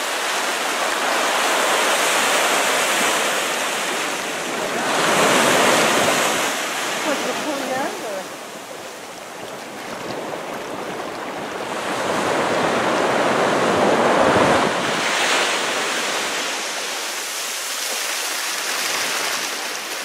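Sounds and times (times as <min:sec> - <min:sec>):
small surf washing on sand: 0:00.0 - 0:20.0.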